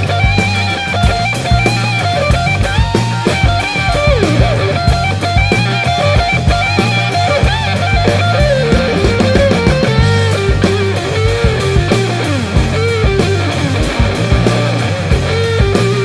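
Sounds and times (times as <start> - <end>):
bass guitar: 0.0 - 16.0
drum kit: 0.0 - 16.0
lead electric guitar melody: 0.0 - 16.0.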